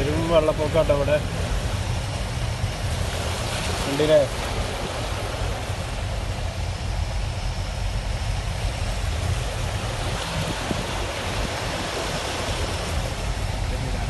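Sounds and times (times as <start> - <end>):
floodwater rushing: 0.0 - 14.0
low rumble: 0.0 - 14.0.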